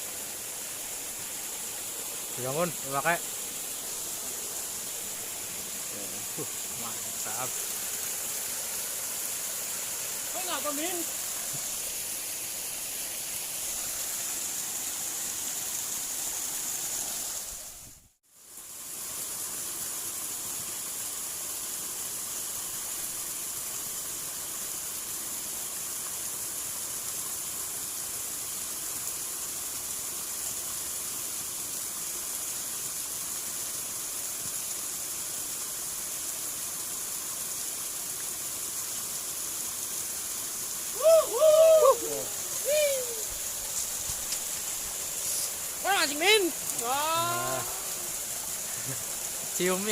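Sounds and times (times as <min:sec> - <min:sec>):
high even hiss: 0:00.0 - 0:49.9
water flowing in a ditch: 0:00.0 - 0:49.9.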